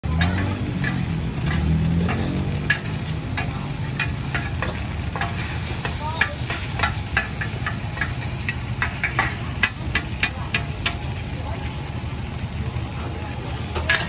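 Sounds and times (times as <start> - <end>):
food sizzling: 0.0 - 14.0
metal spatulas scraping on wok: 0.1 - 11.0, 13.6 - 14.0.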